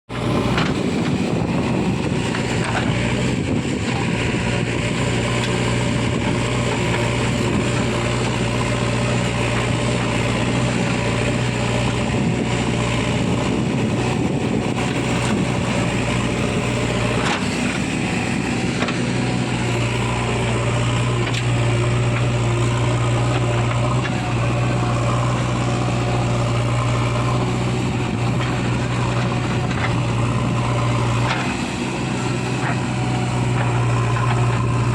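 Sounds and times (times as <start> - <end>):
diesel engines running: 0.1 - 34.9.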